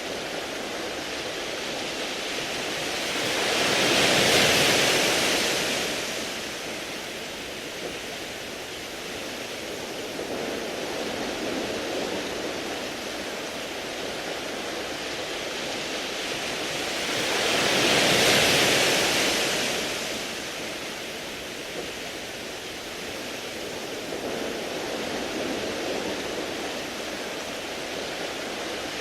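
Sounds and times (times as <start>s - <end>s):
waves washing over pebbles: 0.0s - 29.0s.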